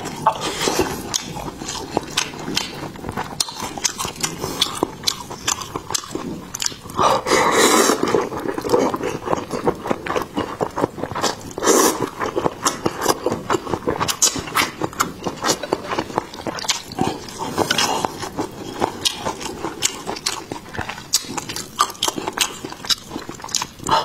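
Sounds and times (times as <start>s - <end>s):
chewing with wet mouth clicks: 0.0s - 7.1s, 7.7s - 24.0s
slurping noodles: 0.0s - 21.5s.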